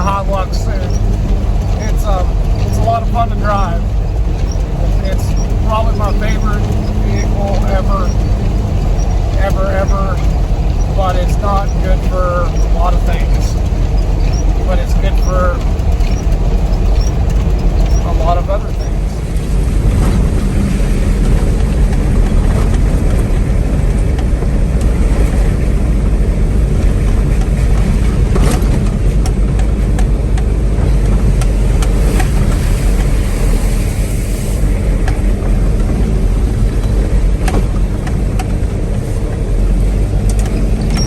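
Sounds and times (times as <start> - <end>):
road noise: 0.0 - 41.0
vehicle engine driving: 0.0 - 41.0.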